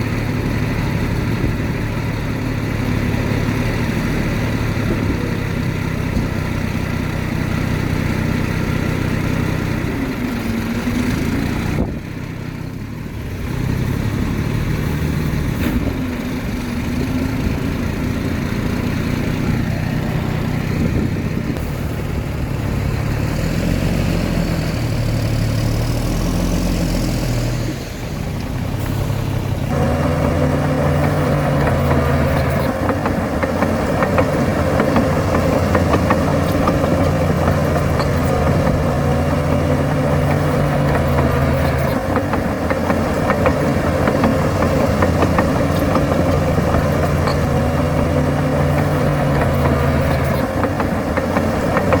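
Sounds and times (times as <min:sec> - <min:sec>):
heavy diesel machinery running: 0:00.0 - 0:52.0.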